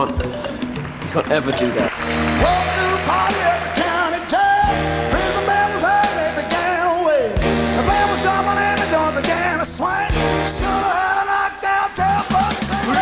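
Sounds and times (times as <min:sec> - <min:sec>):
rock band playing: 0:00.0 - 0:13.0
person singing: 0:02.2 - 0:13.0.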